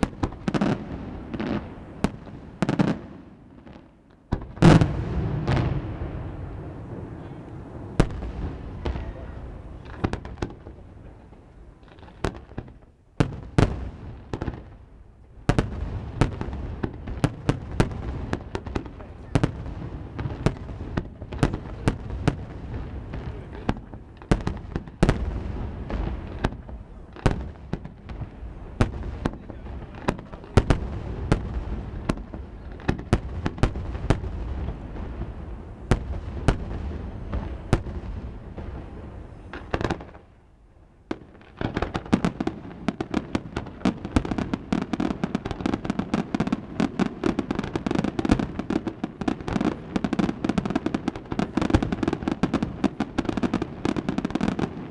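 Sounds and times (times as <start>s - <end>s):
fireworks crackle: 0.0s - 40.5s, 41.1s - 54.9s
fireworks bangs: 0.0s - 54.9s.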